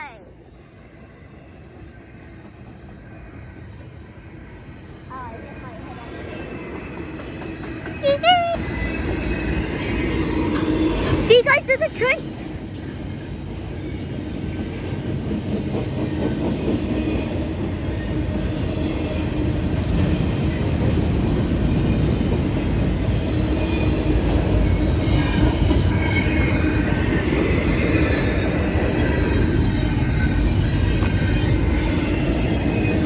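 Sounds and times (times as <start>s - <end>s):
train passing on tracks: 0.0s - 33.0s.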